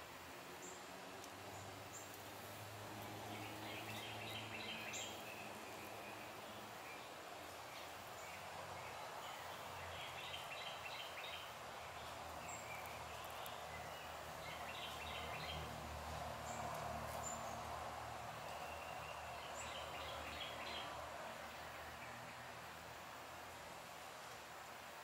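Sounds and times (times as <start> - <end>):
steady low hiss: 0.0 - 25.0
songbird chirping: 0.5 - 23.2.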